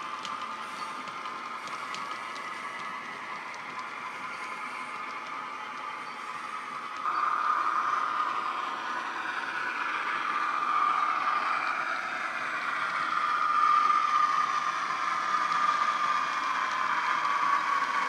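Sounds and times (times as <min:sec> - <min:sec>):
model diesel engine sound: 0:00.0 - 0:18.0
steady wavering whine: 0:00.0 - 0:18.0.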